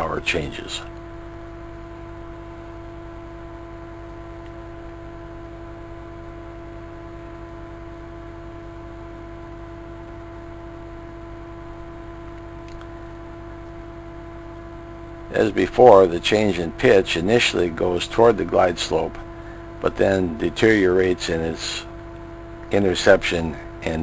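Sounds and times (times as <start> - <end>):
steady tonal hum: 0.0 - 24.0.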